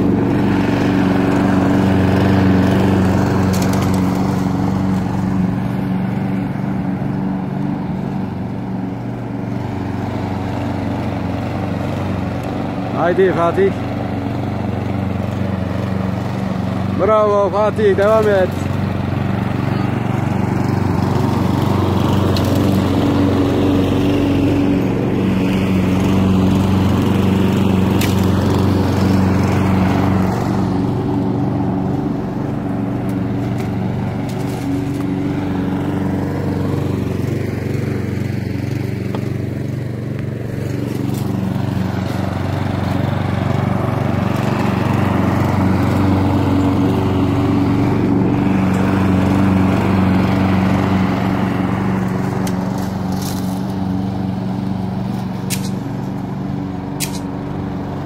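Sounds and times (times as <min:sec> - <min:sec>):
lawn mower cutting grass: 0:00.0 - 0:58.0.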